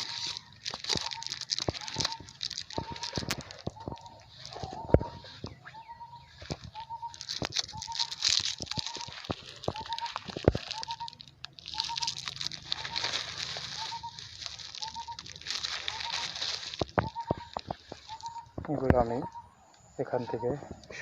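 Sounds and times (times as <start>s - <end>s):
crinkling and rustling: 0.0s - 19.4s
bird calling: 0.0s - 21.0s.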